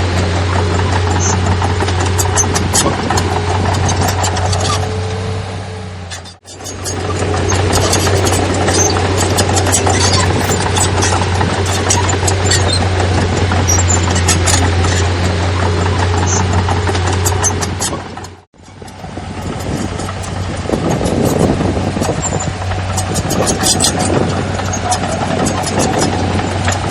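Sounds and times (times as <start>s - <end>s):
metallic clanks and rattles: 0.0s - 5.1s, 6.1s - 26.9s
diesel machinery engine drone: 0.0s - 26.9s.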